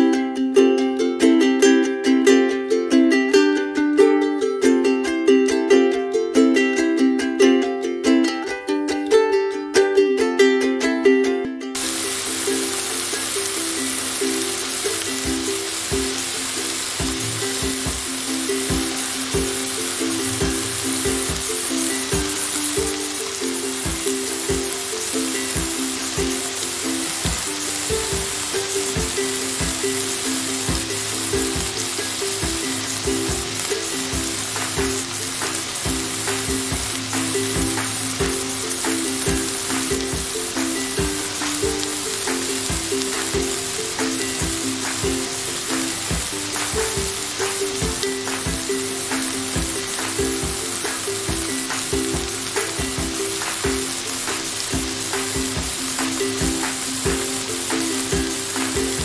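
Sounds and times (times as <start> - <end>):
background music with a beat: 11.8 - 59.0
chicken sizzling on a grill: 11.8 - 59.0.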